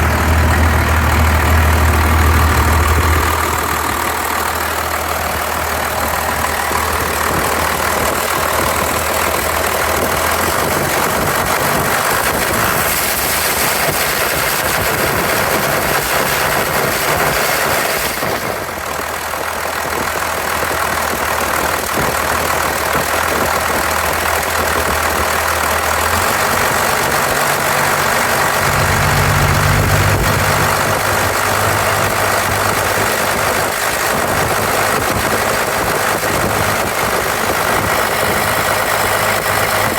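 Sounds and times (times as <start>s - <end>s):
diesel engine idling with misfire: 0.0s - 39.9s.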